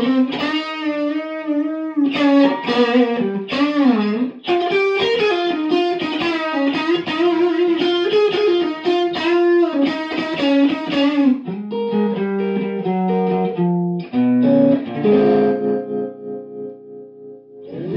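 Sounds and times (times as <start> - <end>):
electric guitar blues lick: 0.0 - 17.9.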